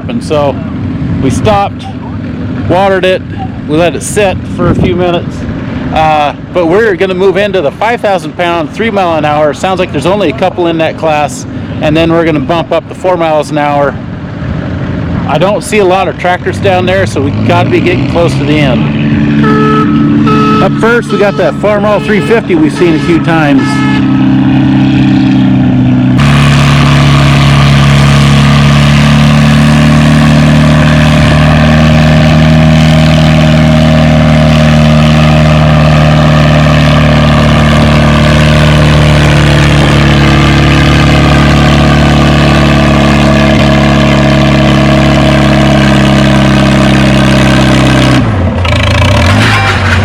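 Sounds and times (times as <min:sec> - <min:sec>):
tractor engine under heavy load: 0:00.0 - 0:50.0.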